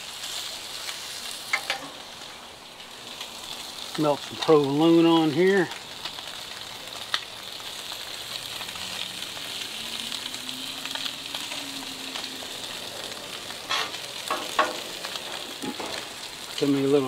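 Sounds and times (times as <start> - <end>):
beef sizzling on griddle: 0.0 - 17.0.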